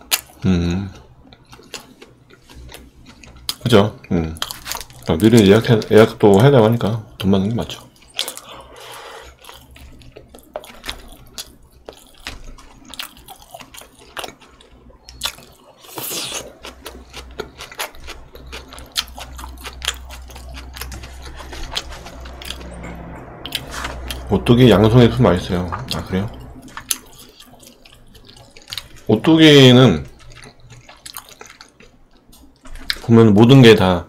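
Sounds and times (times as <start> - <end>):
person chewing food: 0.0 - 6.1, 7.7 - 33.1.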